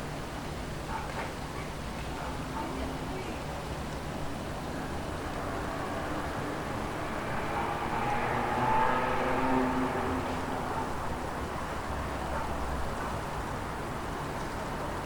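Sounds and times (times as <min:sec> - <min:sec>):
wind blowing through trees: 0:00.0 - 0:15.0.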